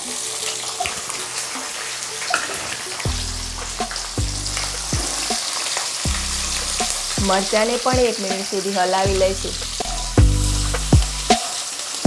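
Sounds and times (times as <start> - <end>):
peanuts sizzling in hot oil: 0.0 - 12.0.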